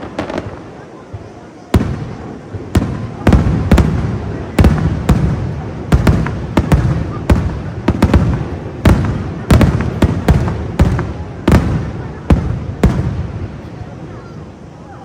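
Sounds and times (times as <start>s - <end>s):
fireworks bursting with sharp bangs: 0.0s - 14.9s.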